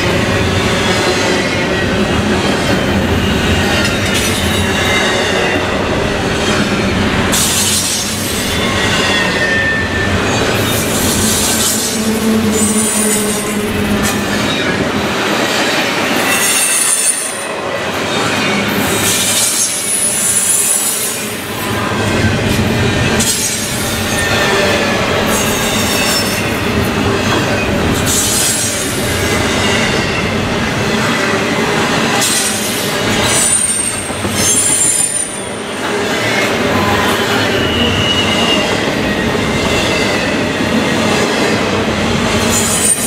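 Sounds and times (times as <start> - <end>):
train wheel squeals: 0.0 - 40.9, 42.4 - 43.0
freight train rumbling past: 0.0 - 43.0.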